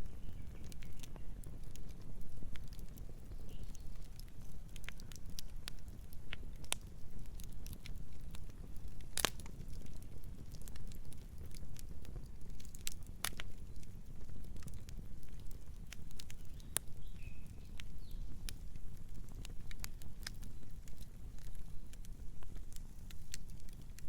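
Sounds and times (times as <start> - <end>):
campfire crackles and pops: 0.0 - 24.0
fire low rumble: 0.0 - 24.0.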